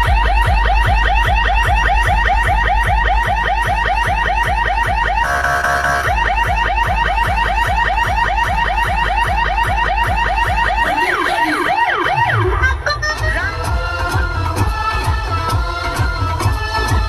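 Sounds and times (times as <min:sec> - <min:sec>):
car alarm siren: 0:00.0 - 0:14.0.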